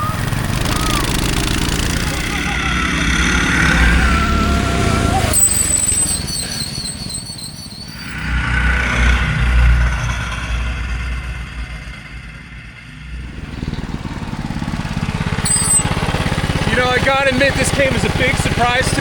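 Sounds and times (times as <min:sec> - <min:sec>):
minibike engines running hard: 0:00.0 - 0:19.0.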